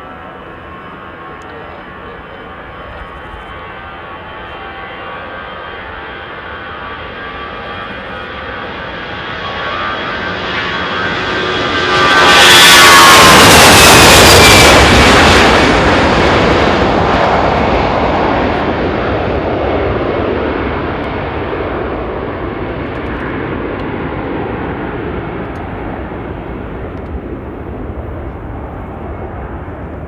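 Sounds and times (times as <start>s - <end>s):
jet airliner engines climbing: 0.0s - 30.0s.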